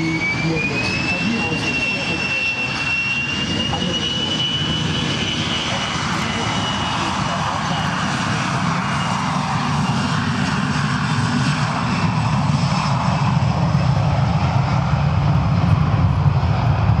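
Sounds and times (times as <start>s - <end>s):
jet engines at take-off power: 0.0s - 17.0s.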